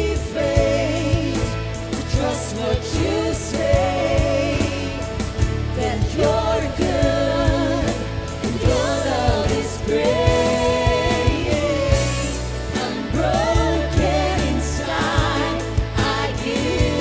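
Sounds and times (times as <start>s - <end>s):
band with drums and bass: 0.0s - 17.0s
person singing: 0.0s - 17.0s.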